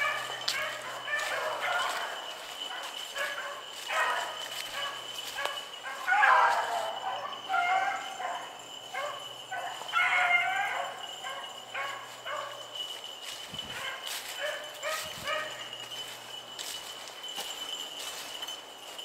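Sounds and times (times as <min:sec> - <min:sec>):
dogs baying and yipping: 0:00.0 - 0:19.0.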